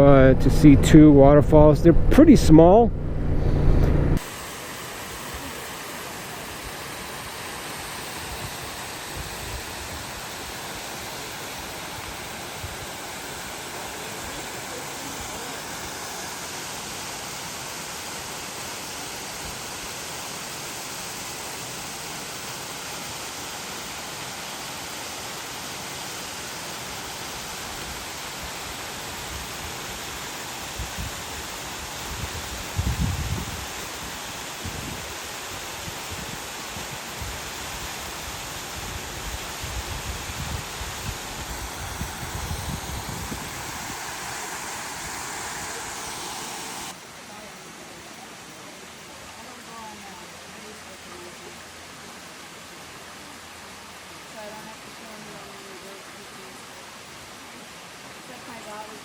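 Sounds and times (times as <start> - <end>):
small waterfall rushing: 4.2 - 59.0.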